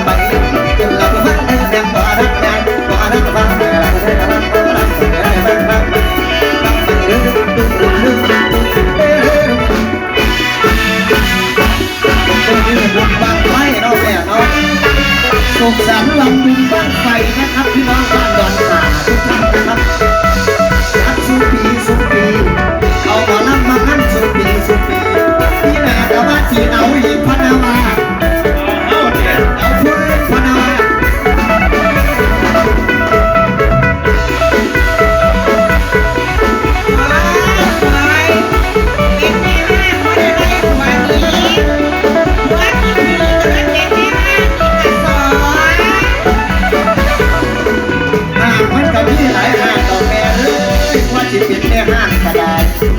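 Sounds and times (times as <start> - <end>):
steady drum beat: 0.0 - 52.9.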